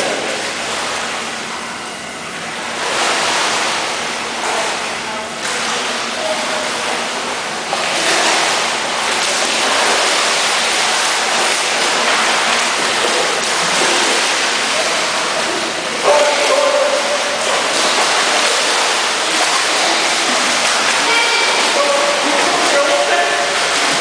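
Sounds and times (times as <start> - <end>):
water splashing from swimming strokes: 0.0 - 24.0.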